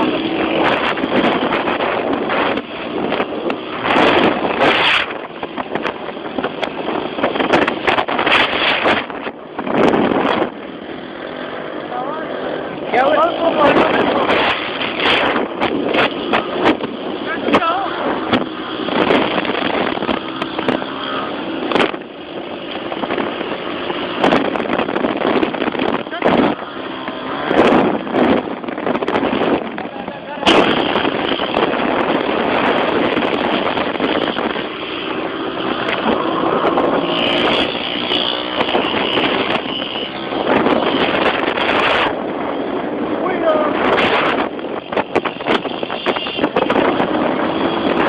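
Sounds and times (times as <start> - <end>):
motorcycle engine running: 0.0 - 48.0
wind buffeting microphone: 0.0 - 48.0.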